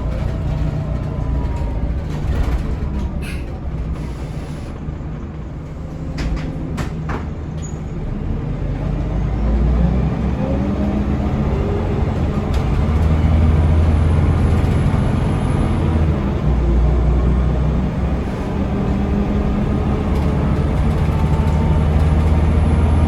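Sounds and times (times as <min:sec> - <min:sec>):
diesel bus accelerating: 0:00.0 - 0:23.0.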